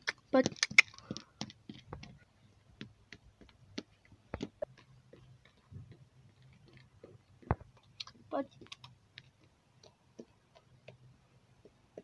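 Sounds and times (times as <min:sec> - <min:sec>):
toy hooves tapping on stone: 0:00.0 - 0:12.0.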